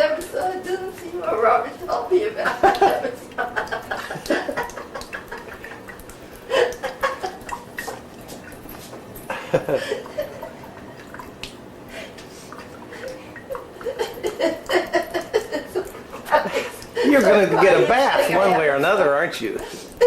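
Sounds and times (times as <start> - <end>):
water dripping and splashing: 0.0 - 20.0.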